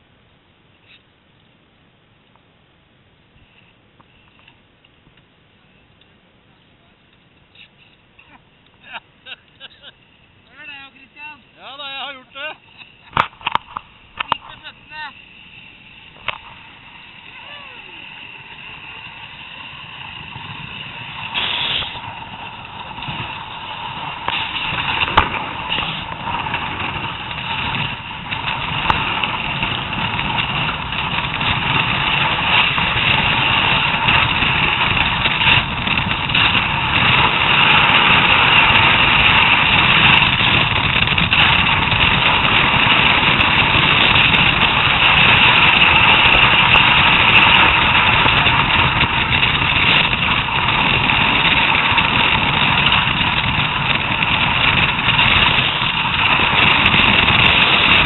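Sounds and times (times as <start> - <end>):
bobsleigh runners scraping on ice: 10.5 - 58.0.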